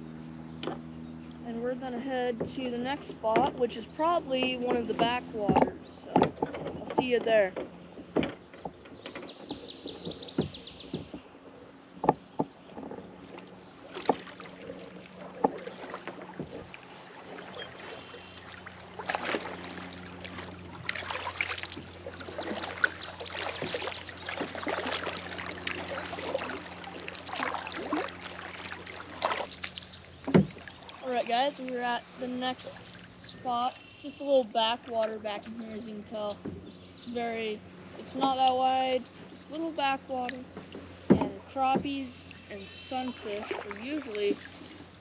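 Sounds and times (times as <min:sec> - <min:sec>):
paddle splashing through water: 0:02.2 - 0:45.0.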